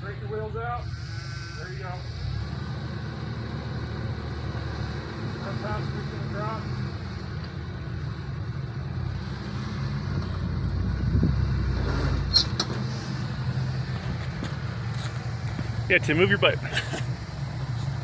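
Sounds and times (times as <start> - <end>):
car engine running at low revs: 0.0 - 18.0.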